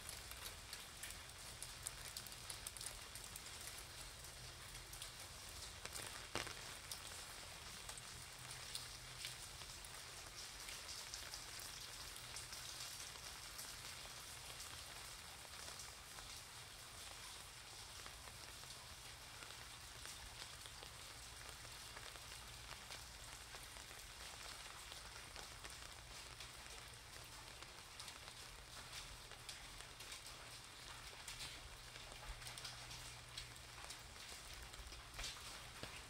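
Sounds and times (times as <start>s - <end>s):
raindrops ticking on an umbrella: 0.0s - 36.0s
steady rain: 0.0s - 36.0s.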